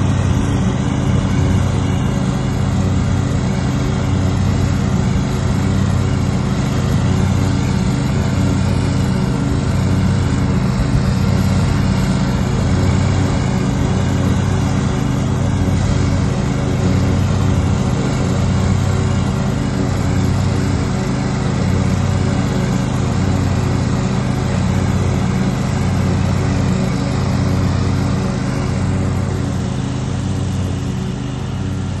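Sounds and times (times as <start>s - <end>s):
riding lawn mower engine: 0.0s - 32.0s.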